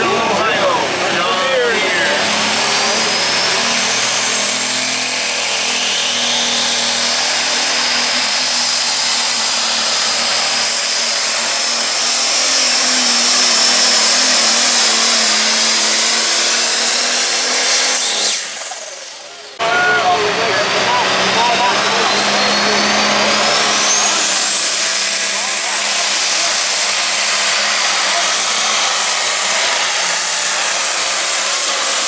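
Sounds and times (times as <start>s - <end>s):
high engine whine: 0.0s - 32.0s
tractor diesel engine at full throttle: 0.0s - 32.0s.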